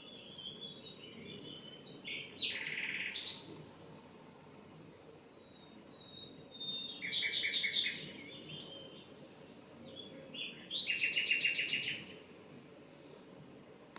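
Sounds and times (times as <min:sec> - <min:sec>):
nightingale singing: 0:00.0 - 0:04.1, 0:04.8 - 0:13.9.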